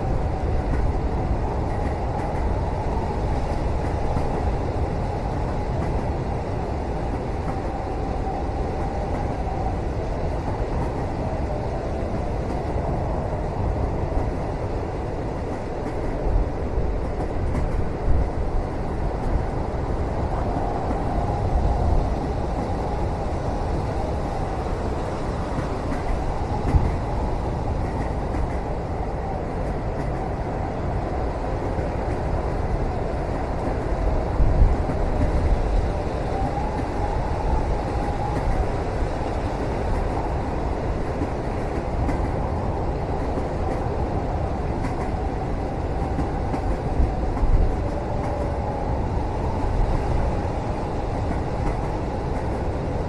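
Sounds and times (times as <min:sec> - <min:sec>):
train rumble inside cabin: 0:00.0 - 0:53.0.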